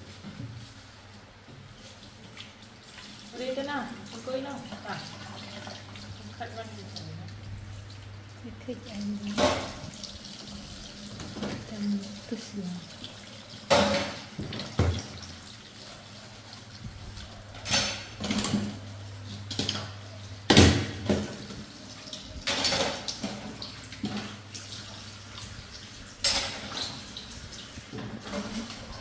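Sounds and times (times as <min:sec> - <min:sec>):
tap water running into sink: 0:01.4 - 0:29.0.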